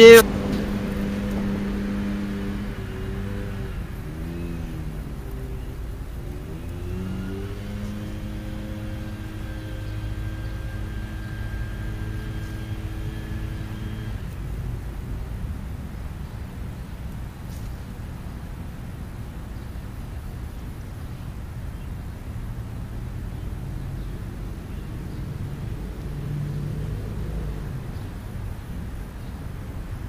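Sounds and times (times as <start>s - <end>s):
engine running low rumble: 0.0s - 30.0s.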